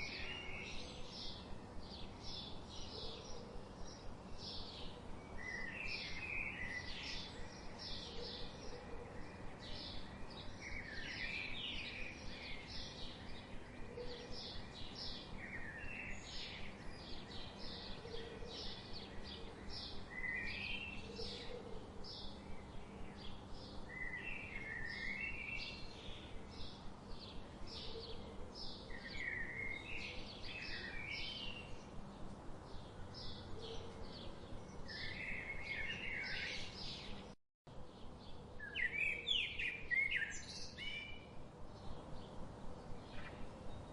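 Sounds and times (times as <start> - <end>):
songbirds chirping: 0.0 - 43.9
steady background hiss: 0.0 - 43.9.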